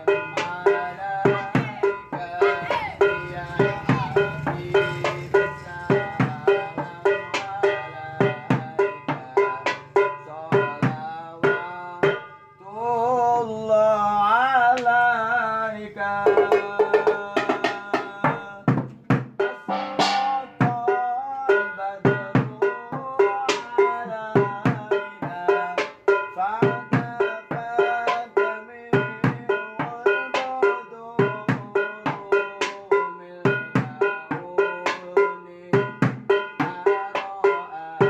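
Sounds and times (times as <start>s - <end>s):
drum beat: 0.0s - 12.4s, 16.1s - 38.0s.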